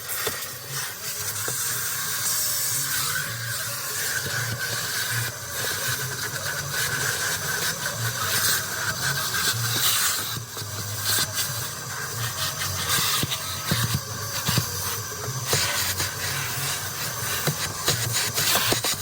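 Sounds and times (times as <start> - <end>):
vacuum hose sucking air: 0.0 - 19.0.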